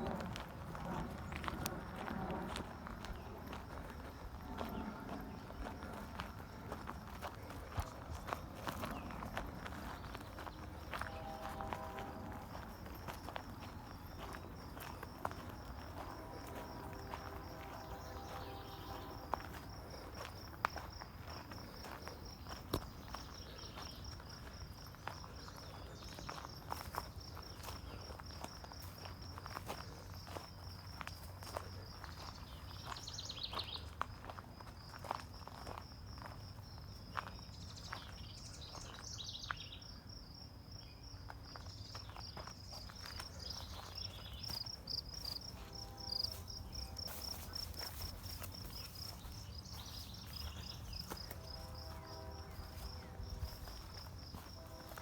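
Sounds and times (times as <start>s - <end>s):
footsteps: 0.0s - 33.0s, 42.4s - 55.0s
insects trilling: 0.0s - 55.0s.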